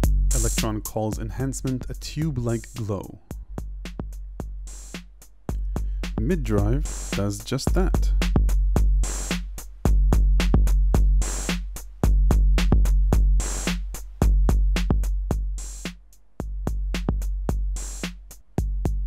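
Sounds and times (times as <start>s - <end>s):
deep drum machine kicks: 0.0s - 1.4s, 3.3s - 19.0s
hi-hat ticks: 0.0s - 19.0s.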